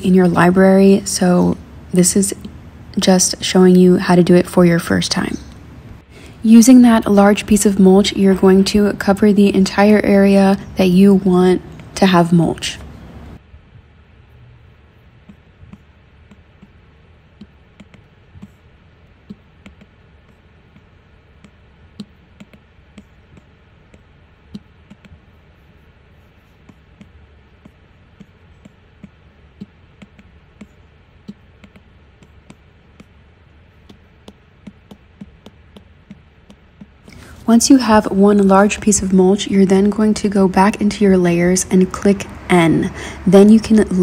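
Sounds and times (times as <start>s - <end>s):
faint room hum: 0.0s - 44.0s.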